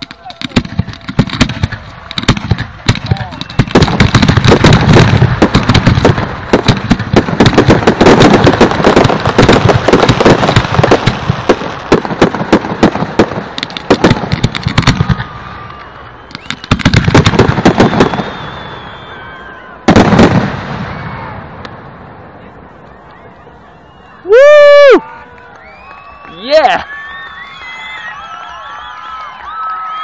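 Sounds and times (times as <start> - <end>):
fireworks cracks and bangs: 0.0 - 30.0.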